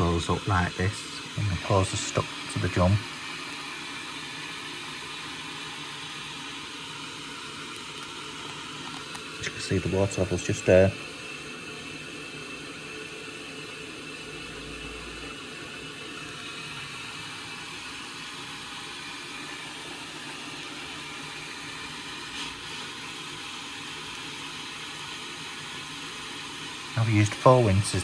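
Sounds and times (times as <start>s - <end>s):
water running into washing machine: 0.0s - 28.0s.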